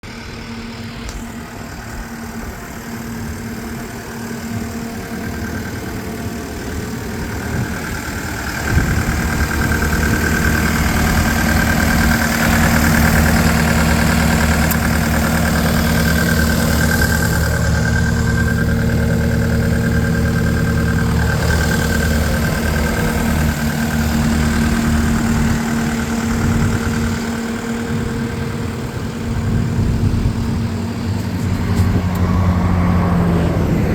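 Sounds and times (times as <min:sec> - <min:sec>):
diesel engine running: 0:00.0 - 0:33.9
high steady whine: 0:00.0 - 0:33.9.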